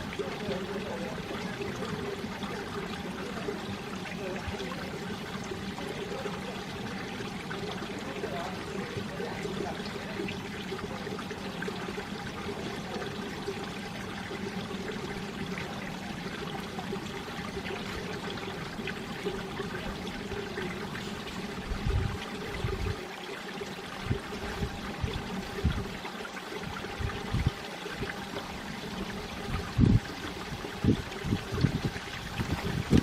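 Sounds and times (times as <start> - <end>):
stream water rushing over rocks: 0.0 - 33.0.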